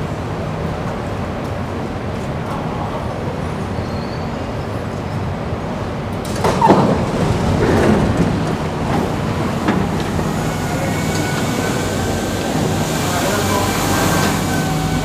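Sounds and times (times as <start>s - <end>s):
train humming: 0.0s - 15.0s
train doors sliding open: 0.8s - 15.0s.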